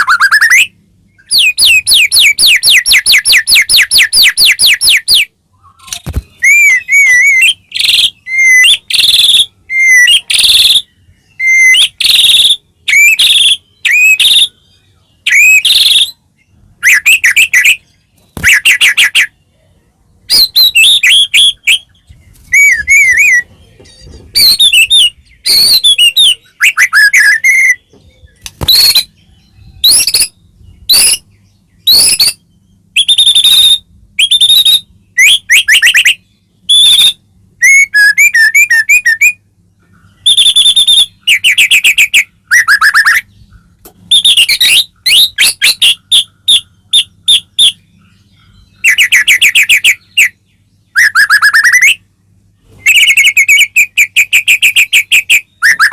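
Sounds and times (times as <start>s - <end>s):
bird singing whistled phrases: 0.0s - 16.2s, 16.8s - 19.4s, 20.3s - 39.4s, 40.1s - 43.3s, 44.1s - 47.9s, 48.5s - 52.0s, 52.8s - 55.9s.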